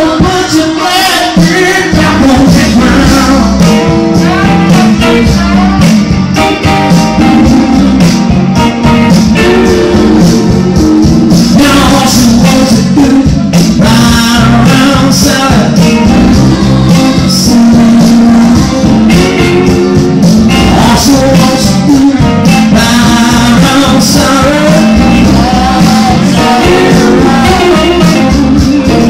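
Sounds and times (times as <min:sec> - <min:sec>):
man singing: 0:00.0 - 0:06.5, 0:09.4 - 0:29.0
amplified electric guitar: 0:00.0 - 0:29.0
steady beat: 0:01.3 - 0:29.0.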